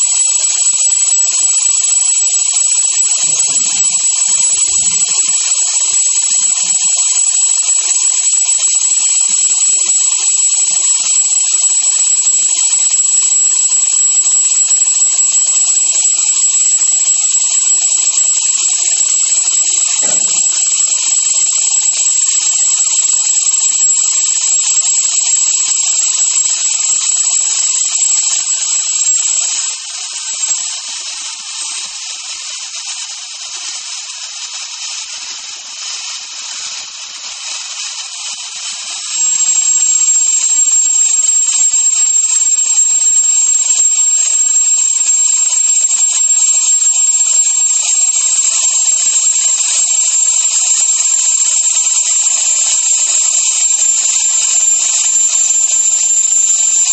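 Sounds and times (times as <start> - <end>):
thin high whistle: 0.0 - 56.9
gas venting hiss: 2.0 - 56.9.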